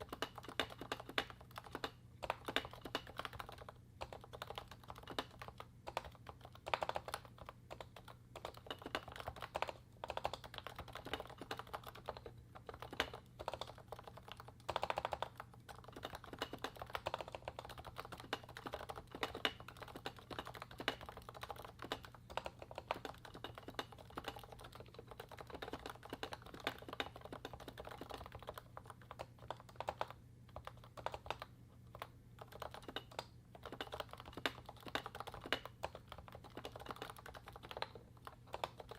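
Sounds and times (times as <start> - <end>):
faint low hum: 0.0 - 38.9
keyboard typing: 0.0 - 38.9.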